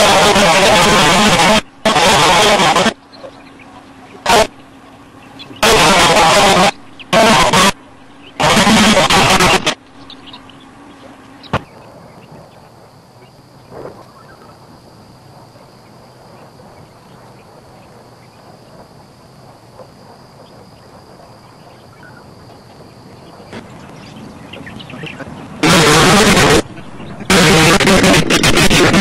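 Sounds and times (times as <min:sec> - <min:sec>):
insects buzzing high tone: 0:00.0 - 0:29.0.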